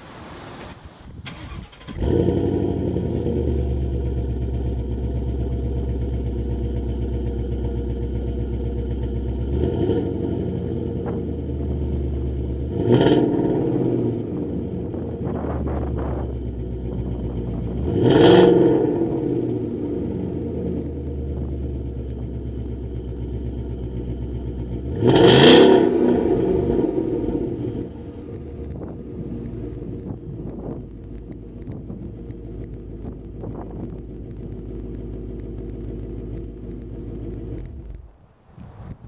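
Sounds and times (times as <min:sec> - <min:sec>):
car engine starting: 0:01.2 - 0:39.0
engine revving: 0:01.3 - 0:38.1
car engine idling: 0:01.3 - 0:38.4.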